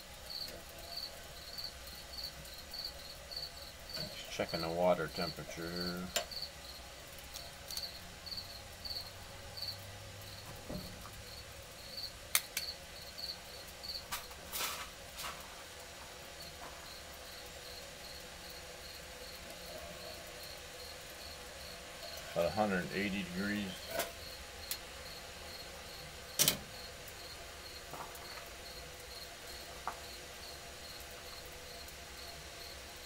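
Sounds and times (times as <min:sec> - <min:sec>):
cricket chirping: 0:00.0 - 0:14.8, 0:16.3 - 0:33.0.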